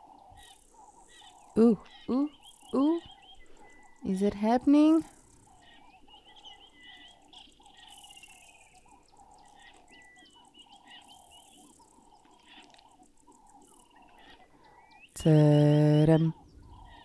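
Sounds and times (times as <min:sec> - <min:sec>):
bird chirps: 0:00.0 - 0:17.0
frogs calling: 0:00.0 - 0:17.0.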